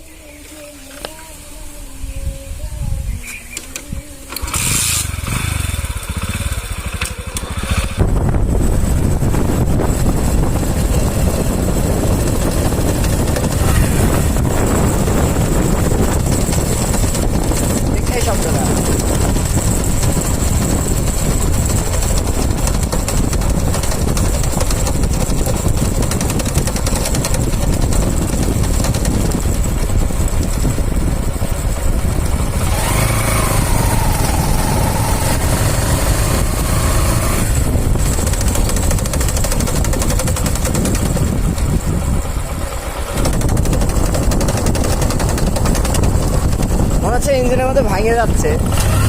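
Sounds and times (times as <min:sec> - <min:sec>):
motorcycle engine rattling: 0:00.0 - 0:49.0.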